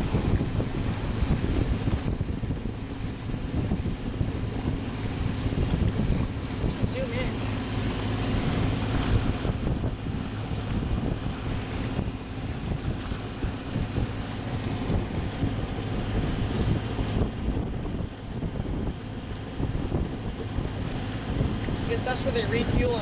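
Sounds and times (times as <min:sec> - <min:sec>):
boat engine humming: 0:00.0 - 0:23.0
wind buffeting microphone: 0:00.0 - 0:23.0.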